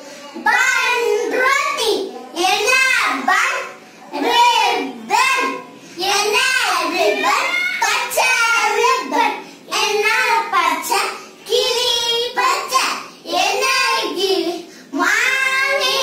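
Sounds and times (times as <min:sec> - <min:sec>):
children singing: 0:02.5 - 0:16.0.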